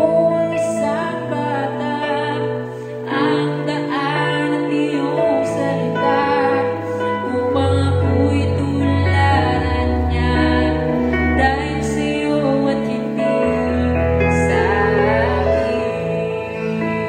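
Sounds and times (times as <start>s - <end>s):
slow soft music: 0.0s - 17.0s.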